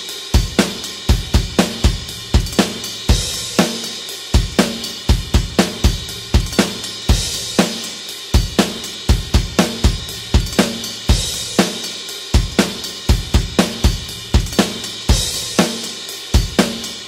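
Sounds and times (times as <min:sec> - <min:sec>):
crash cymbals: 0:00.0 - 0:17.0
hi-hat: 0:00.0 - 0:17.0
snare drum: 0:00.0 - 0:17.0
bass drum: 0:00.4 - 0:07.8, 0:08.4 - 0:15.8.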